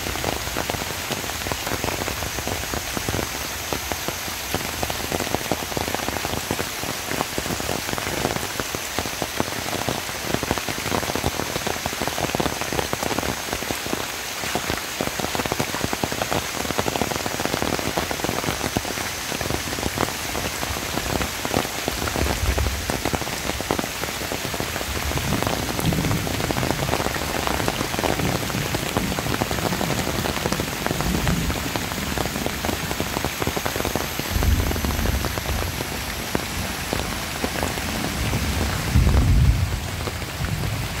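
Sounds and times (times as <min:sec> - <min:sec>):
heavy rain: 0:00.0 - 0:41.0.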